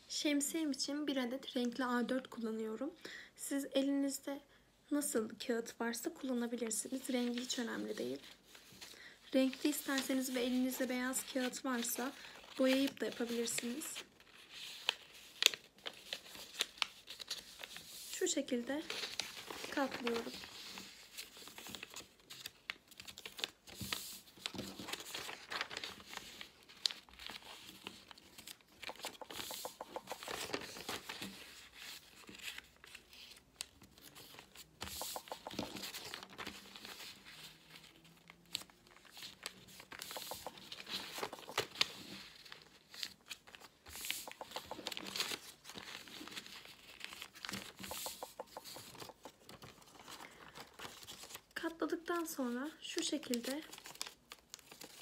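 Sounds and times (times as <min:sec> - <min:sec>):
paper rustling and crackling: 0:06.9 - 0:51.7, 0:53.0 - 0:55.0.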